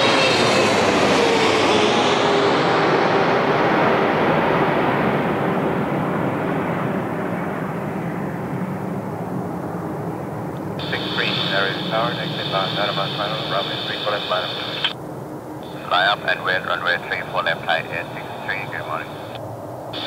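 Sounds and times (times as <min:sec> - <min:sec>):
jet engine whine and hiss: 0:00.0 - 0:20.0.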